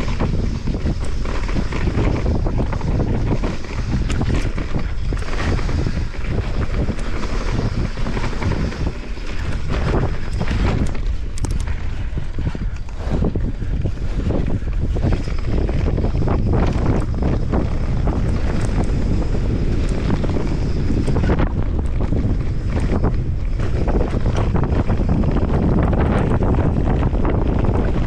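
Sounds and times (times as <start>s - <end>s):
bike clattering over bumps: 0.0s - 28.0s
bike tyres rolling on dirt: 0.0s - 28.0s
wind rushing over microphone: 0.0s - 28.0s.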